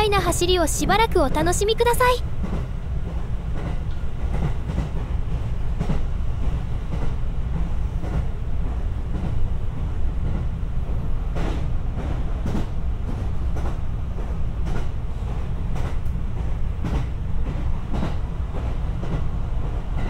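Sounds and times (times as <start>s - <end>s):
train interior low rumble: 0.0s - 20.0s.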